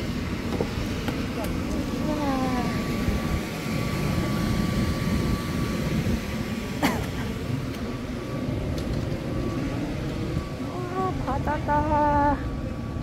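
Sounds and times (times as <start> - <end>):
thin steady whine: 0.0 - 13.0
train rumbling: 0.0 - 13.0.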